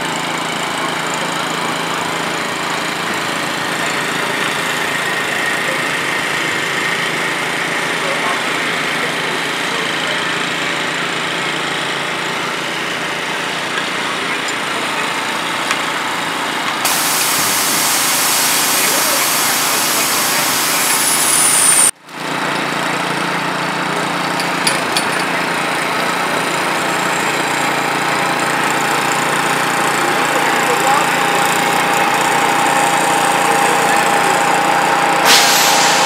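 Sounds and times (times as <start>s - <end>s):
small engine running steadily: 0.0s - 36.0s.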